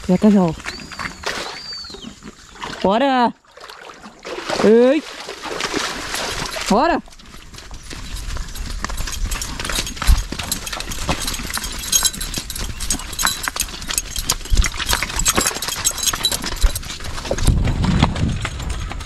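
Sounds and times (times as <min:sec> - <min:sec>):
hooves clip-clopping on dirt: 0:00.0 - 0:02.9, 0:03.7 - 0:19.0.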